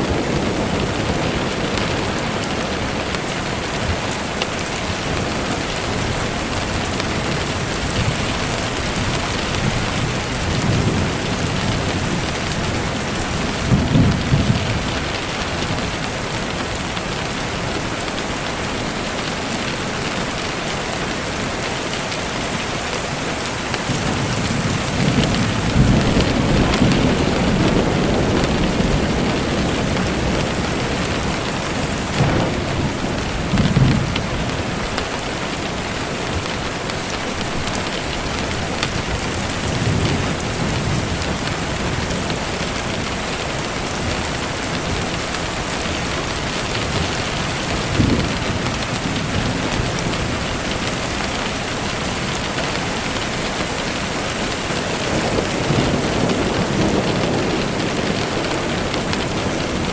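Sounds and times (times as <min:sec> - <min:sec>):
thunder rumbling: 0:00.0 - 0:19.1, 0:23.1 - 0:59.9
steady rain: 0:00.0 - 0:59.9.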